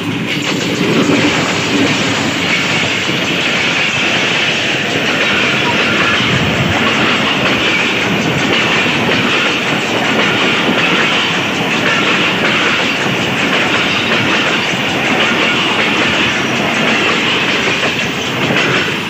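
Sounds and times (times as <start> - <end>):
train wheels clattering on rails: 0.0 - 19.0.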